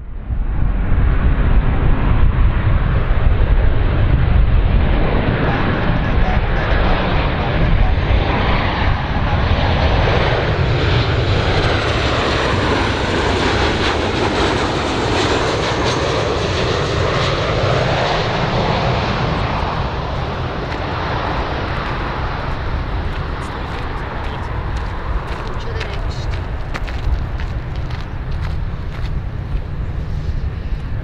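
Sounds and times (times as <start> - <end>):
jet engine roar: 0.0 - 31.0.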